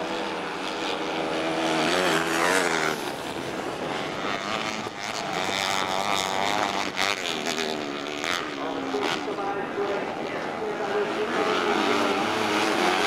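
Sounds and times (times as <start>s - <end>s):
race car engines accelerating: 0.0s - 13.0s.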